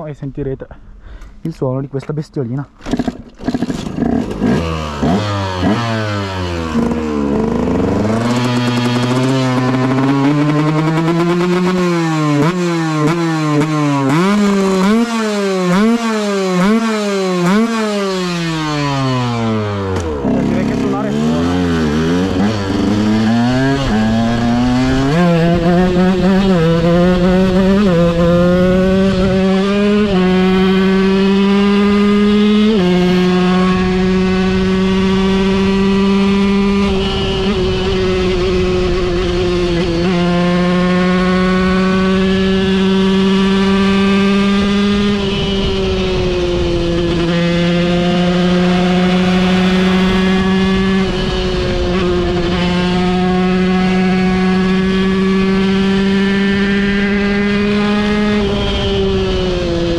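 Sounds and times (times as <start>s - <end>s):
two-stroke motorcycle engine revving: 2.8s - 59.9s.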